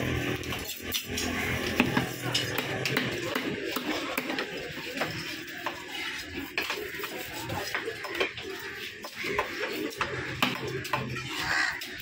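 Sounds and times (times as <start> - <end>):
market background hiss: 0.0 - 11.8.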